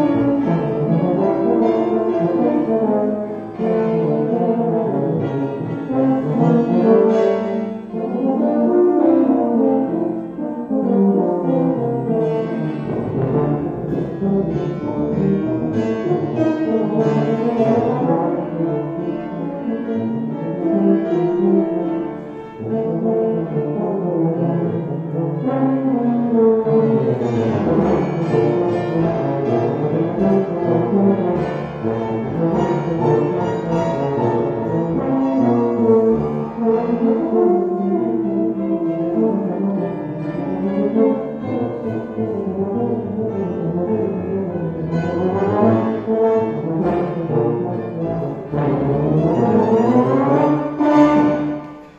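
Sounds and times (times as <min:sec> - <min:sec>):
grand piano: 0:00.0 - 0:51.9
tuba and euphonium: 0:00.0 - 0:51.9.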